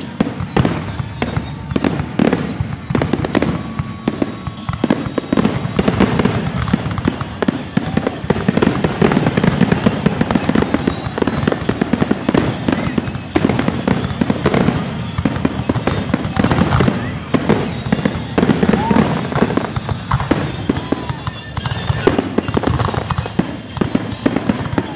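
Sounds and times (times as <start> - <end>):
fireworks barrage: 0.0 - 24.9.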